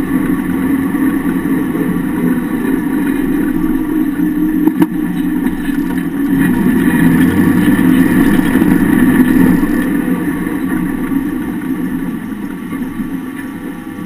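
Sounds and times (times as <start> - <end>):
vehicle engine and drivetrain running: 0.0 - 14.0.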